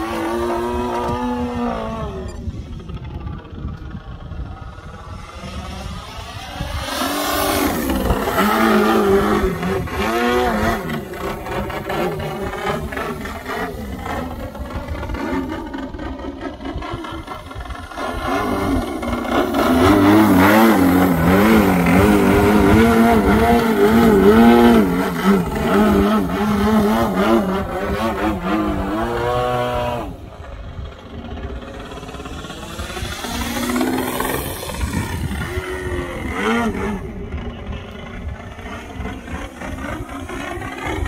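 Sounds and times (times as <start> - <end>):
model plane engine: 0.0 - 41.0.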